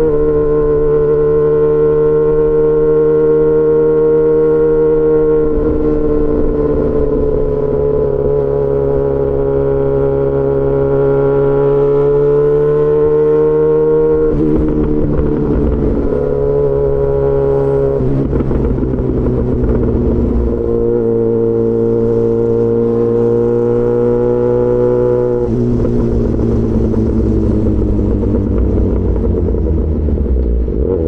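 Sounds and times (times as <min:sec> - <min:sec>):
motorcycle engine cruising: 0:00.0 - 0:31.0.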